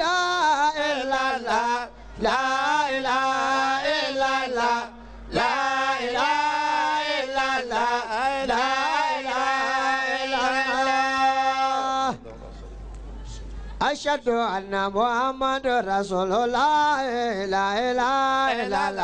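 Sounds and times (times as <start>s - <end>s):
man chanting: 0.0s - 12.4s, 13.8s - 19.0s.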